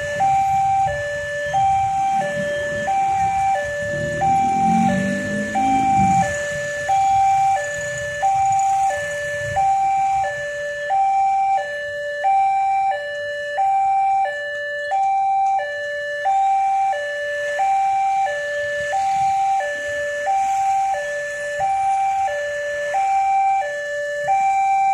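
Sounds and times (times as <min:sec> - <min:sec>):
level crossing alarm two-tone: 0:00.0 - 0:24.9.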